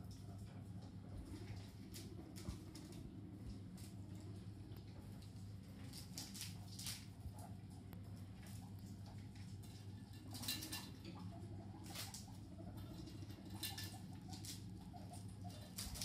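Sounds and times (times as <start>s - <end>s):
guinea pig nibbling: 0.0s - 16.0s.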